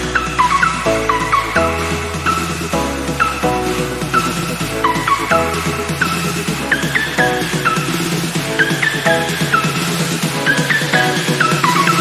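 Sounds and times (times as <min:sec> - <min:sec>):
background music with steady beat: 0:00.0 - 0:12.0
bass line: 0:00.0 - 0:12.0.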